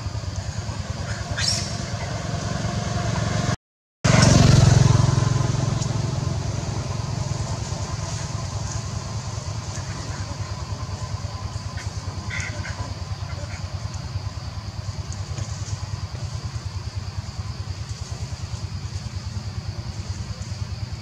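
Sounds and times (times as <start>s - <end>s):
motor engine running: 0.0s - 21.0s.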